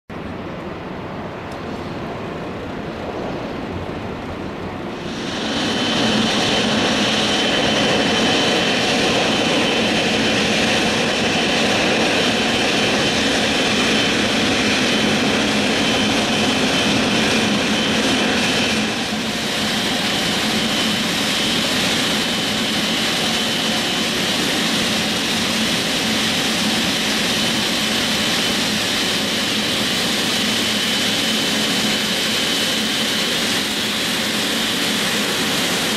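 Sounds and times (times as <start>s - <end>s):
jet engine roar: 0.4s - 35.9s
high engine whine: 1.6s - 35.9s.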